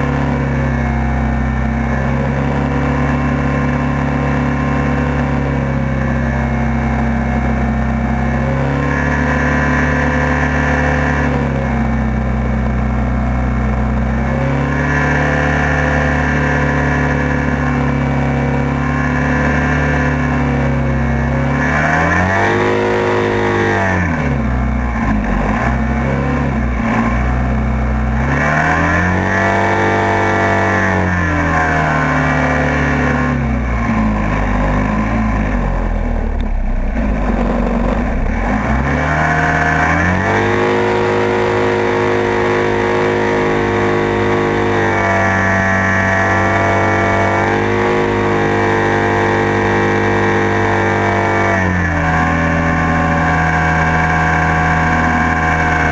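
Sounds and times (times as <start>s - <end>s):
hovercraft engine running hard: 0.0s - 55.9s.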